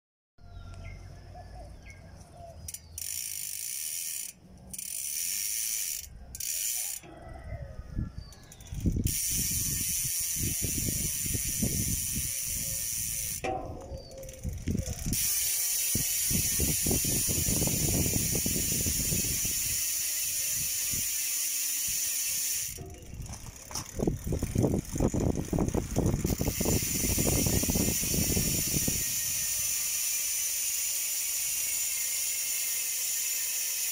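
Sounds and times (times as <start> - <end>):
bicycle hub ratchet buzzing: 2.6 - 7.2, 8.3 - 33.9.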